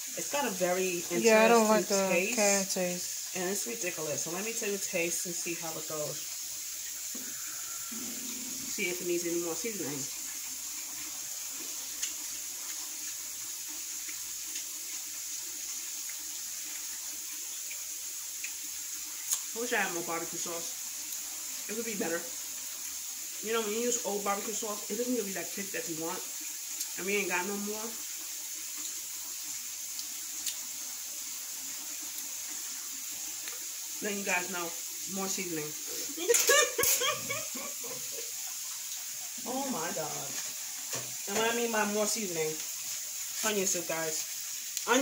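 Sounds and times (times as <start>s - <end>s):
tap water running: 0.0s - 45.0s.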